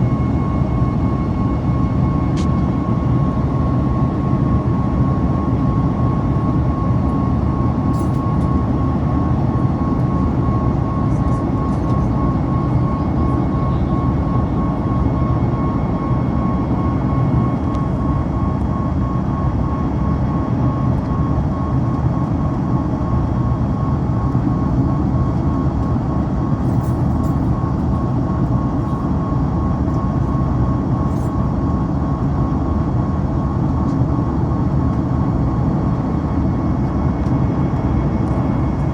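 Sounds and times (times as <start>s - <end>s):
airplane cabin engine rumble: 0.0s - 38.9s
constant high whine: 0.0s - 38.9s.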